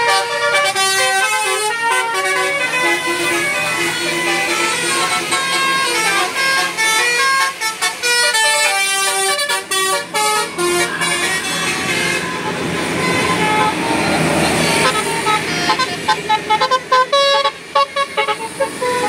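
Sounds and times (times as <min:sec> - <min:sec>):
musical bus horn melody: 0:00.0 - 0:19.0.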